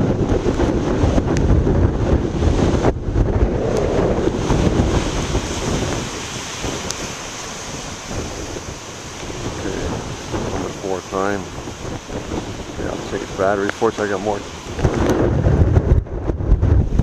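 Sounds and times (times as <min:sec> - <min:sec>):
heavy surf breaking on rocks: 0:00.0 - 0:17.0
wind buffeting microphone: 0:00.0 - 0:17.0.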